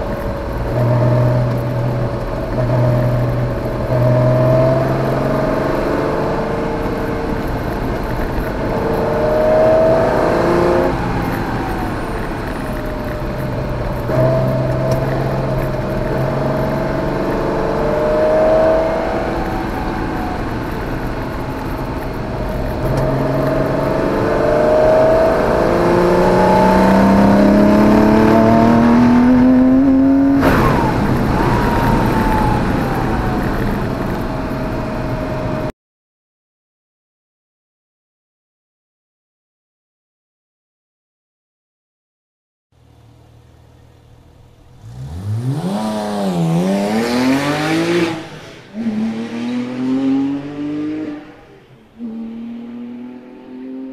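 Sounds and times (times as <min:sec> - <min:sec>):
car engine accelerating through gears: 0:00.0 - 0:35.7, 0:43.2 - 0:53.9.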